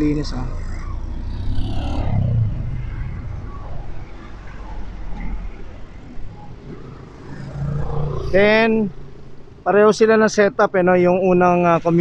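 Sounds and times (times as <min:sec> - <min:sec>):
motor vehicle rumble: 0:00.0 - 0:10.0.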